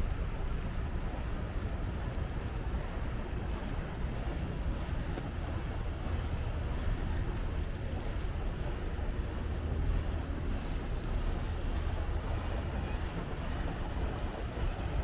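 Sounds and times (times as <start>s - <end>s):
boat engine rumble: 0.0s - 15.0s
wash of noise: 0.0s - 15.0s.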